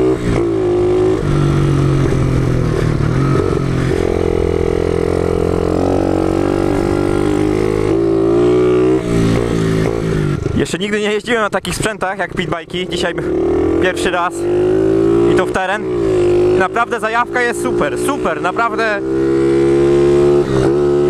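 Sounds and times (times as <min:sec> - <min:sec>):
motorbike engine revving: 0:00.0 - 0:10.8, 0:12.6 - 0:21.0.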